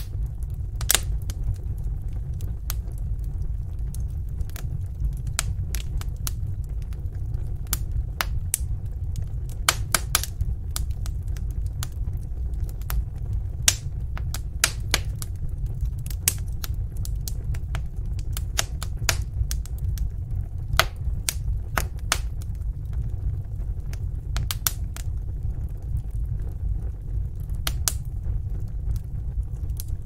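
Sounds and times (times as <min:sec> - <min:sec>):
low rumble of flames: 0:00.0 - 0:30.0
wood fire crackling: 0:00.0 - 0:30.0.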